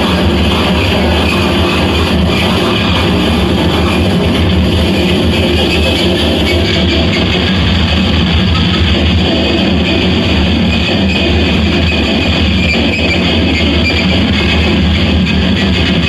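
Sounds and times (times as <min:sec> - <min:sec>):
loud dense noise music: 0:00.0 - 0:16.0.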